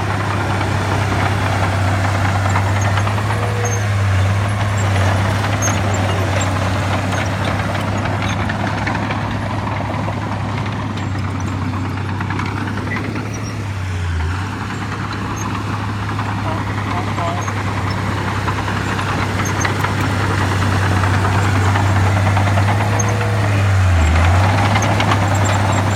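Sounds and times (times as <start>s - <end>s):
heavy diesel machinery running: 0.0s - 25.9s.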